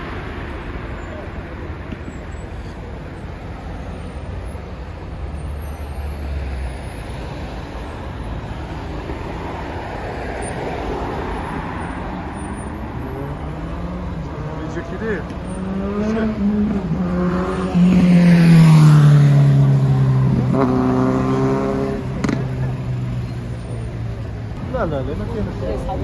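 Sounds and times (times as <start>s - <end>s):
passing car traffic: 0.0s - 26.0s.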